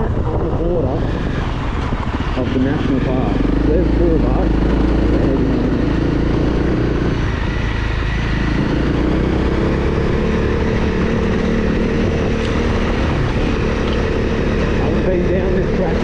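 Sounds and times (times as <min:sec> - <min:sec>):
dirt bike engine running: 0:00.0 - 0:16.0
wind and road noise: 0:00.0 - 0:16.0.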